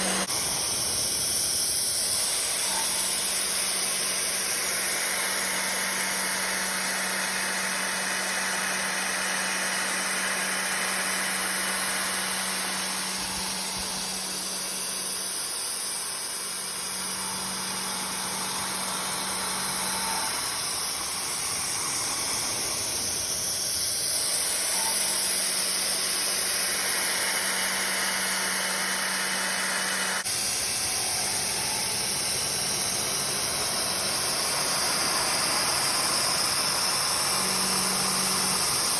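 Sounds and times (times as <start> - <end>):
milling machine hiss and hum: 0.0 - 38.9.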